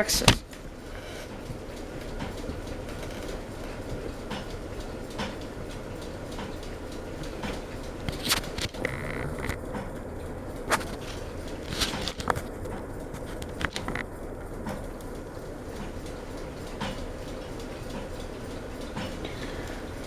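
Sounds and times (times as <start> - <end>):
ceiling fan humming: 0.0 - 20.0.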